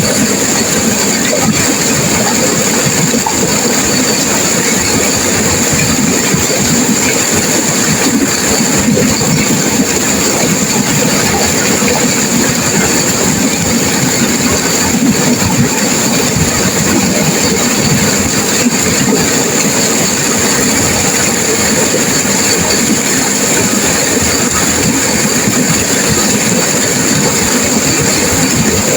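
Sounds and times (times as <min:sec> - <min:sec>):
river water rushing over rocks: 0:00.0 - 0:28.9.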